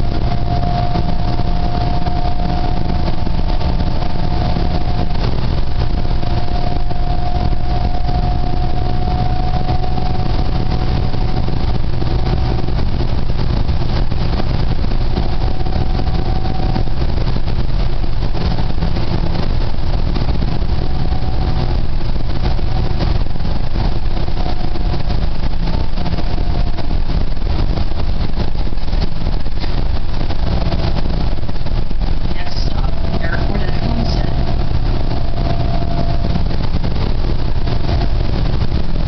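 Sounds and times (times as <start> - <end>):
bus diesel engine running: 0.0 - 39.0
faint whine: 0.0 - 39.0
road noise: 0.0 - 39.0.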